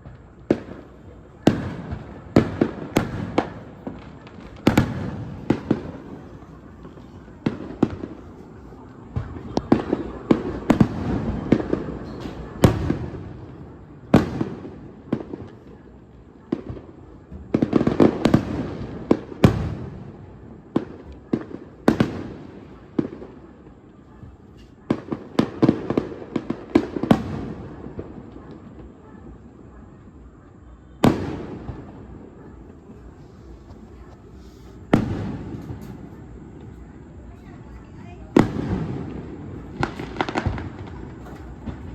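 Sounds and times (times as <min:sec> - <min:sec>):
fireworks bursting: 0:00.0 - 0:30.3, 0:31.0 - 0:41.9.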